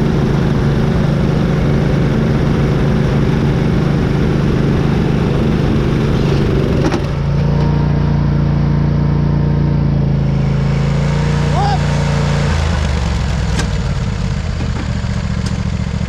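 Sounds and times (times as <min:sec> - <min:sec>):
small mower engine running: 0:00.0 - 0:16.0.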